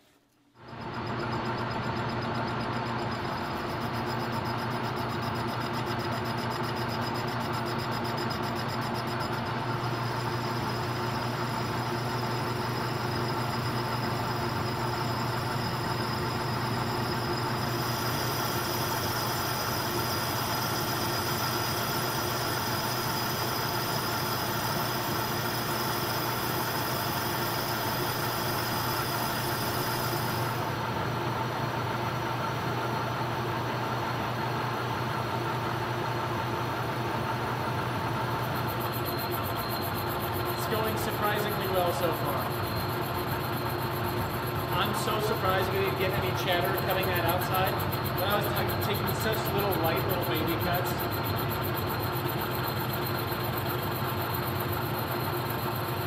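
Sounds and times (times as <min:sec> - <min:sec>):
metal lathe running: 0:00.6 - 0:56.0.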